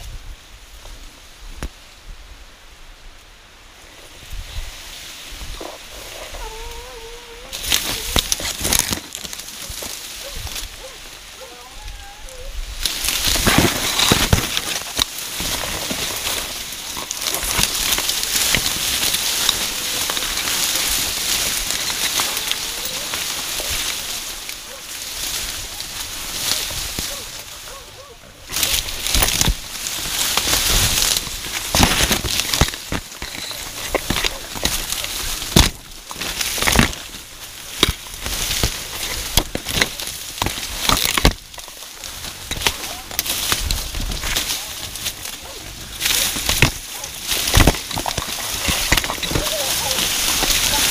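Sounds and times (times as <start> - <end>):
dry cane leaves rustling: 0.0 - 50.9
stalks snapping: 7.5 - 27.8, 28.4 - 50.9.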